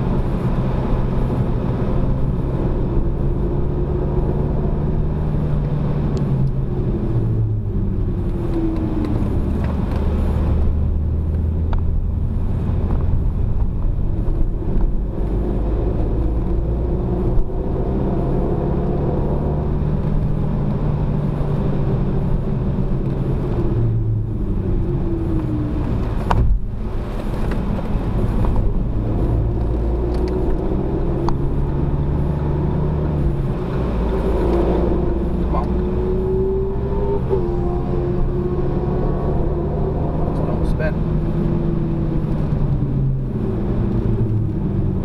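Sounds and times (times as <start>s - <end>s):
car engine revving: 0.0s - 45.0s
tyre and road noise: 0.0s - 45.0s.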